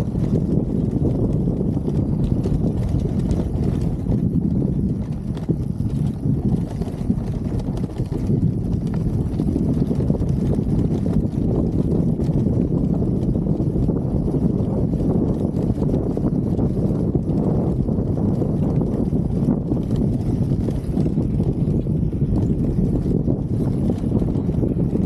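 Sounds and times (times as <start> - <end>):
motorcycle engine rumble: 0.0 - 25.0
wind buffeting microphone: 0.0 - 25.0.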